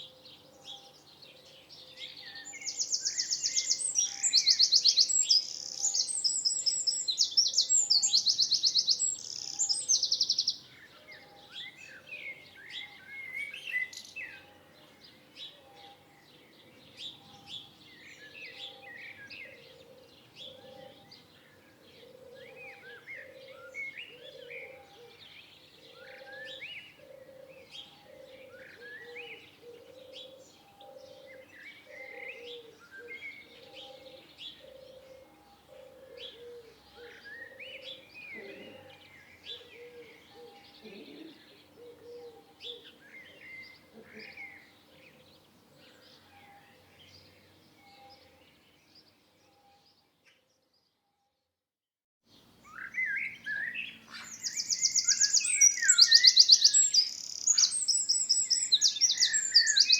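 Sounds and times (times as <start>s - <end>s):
songbirds chirping: 0.0s - 51.5s, 52.2s - 59.9s.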